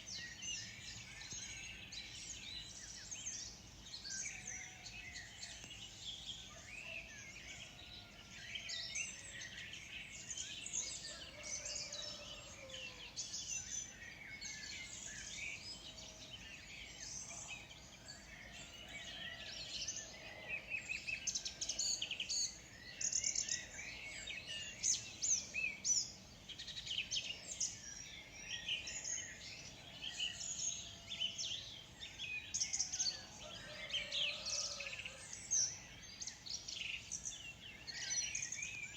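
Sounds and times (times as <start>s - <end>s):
many birds chirping: 0.0s - 38.9s.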